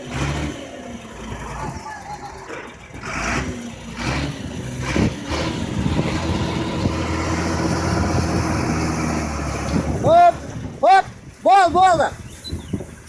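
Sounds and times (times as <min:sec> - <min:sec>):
heavy vehicle engine running: 0:00.0 - 0:10.8.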